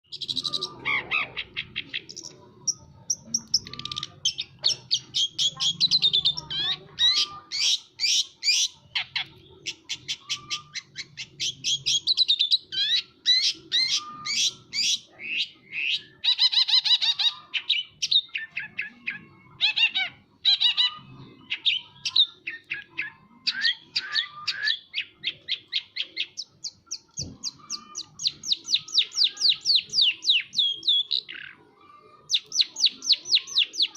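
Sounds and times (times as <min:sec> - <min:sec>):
shrike singing sharp chirps and trills: 0:00.0 - 0:33.9.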